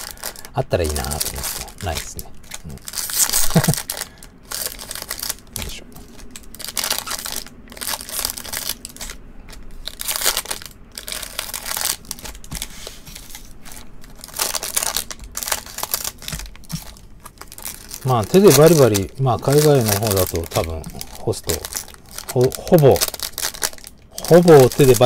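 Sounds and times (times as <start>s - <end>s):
plastic wrappers crinkling: 0.0s - 25.0s.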